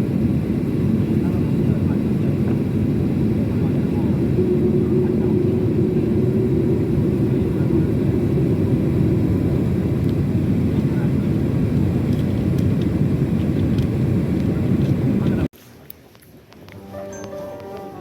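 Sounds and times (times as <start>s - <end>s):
jet airliner cabin rumble: 0.0s - 15.5s.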